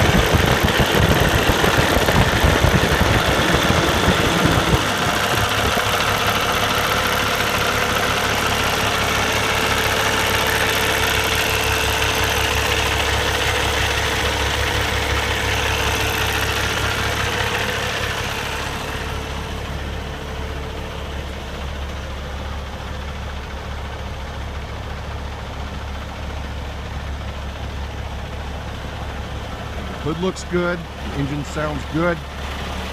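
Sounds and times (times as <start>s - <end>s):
diesel truck engine idling: 0.0s - 32.9s.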